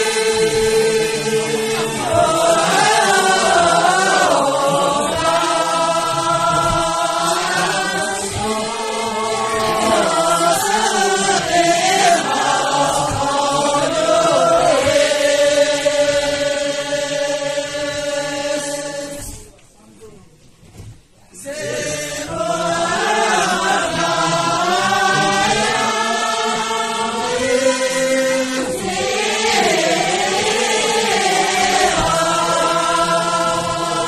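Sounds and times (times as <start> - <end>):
group singing in unison: 0.0 - 19.6, 21.3 - 34.0.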